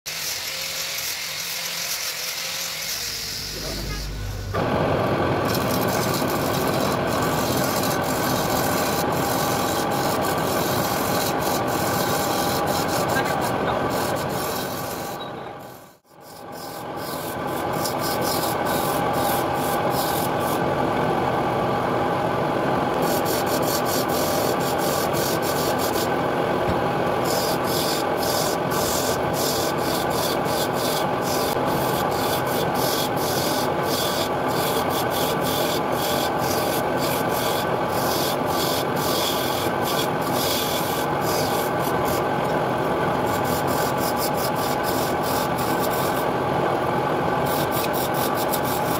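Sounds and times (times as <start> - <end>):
turning tool scraping wood: 0.1 - 4.6, 5.4 - 20.6, 22.9 - 46.3, 47.4 - 48.9
wood lathe humming: 0.1 - 48.9.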